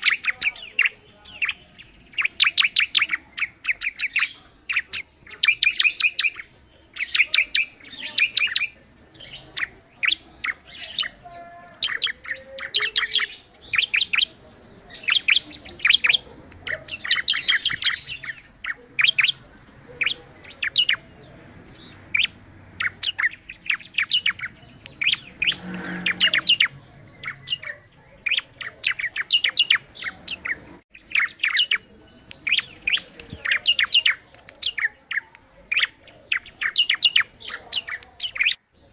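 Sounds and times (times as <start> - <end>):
bird singing sharp high chirps: 0.0 - 38.9.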